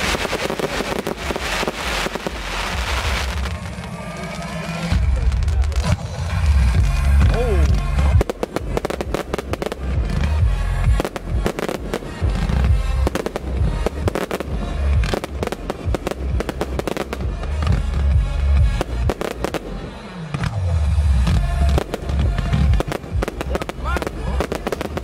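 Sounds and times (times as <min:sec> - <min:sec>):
music playing: 0:00.0 - 0:25.0.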